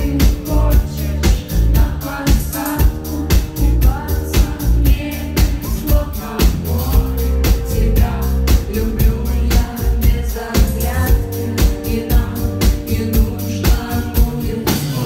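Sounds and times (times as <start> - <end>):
pop band playing: 0.0 - 15.0
woman singing: 0.0 - 15.0.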